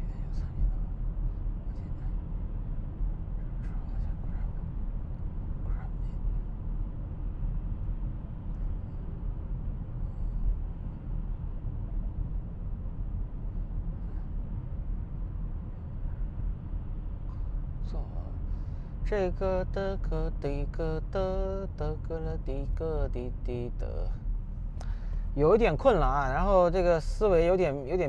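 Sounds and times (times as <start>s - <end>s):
road and engine rumble in car: 0.0s - 28.0s.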